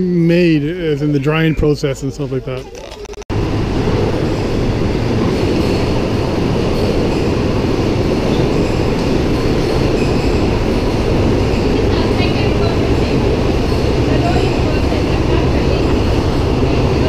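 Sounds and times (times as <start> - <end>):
train rumble: 1.9 - 17.0.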